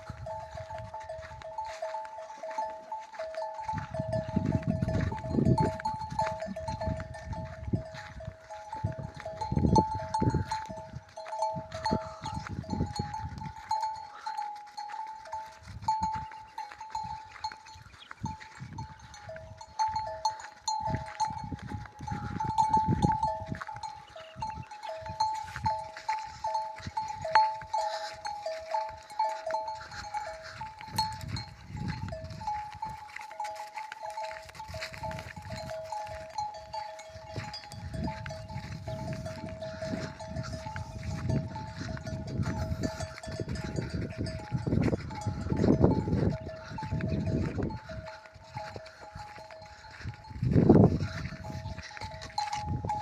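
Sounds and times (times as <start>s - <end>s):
sheep bell clanking: 0.0s - 53.0s.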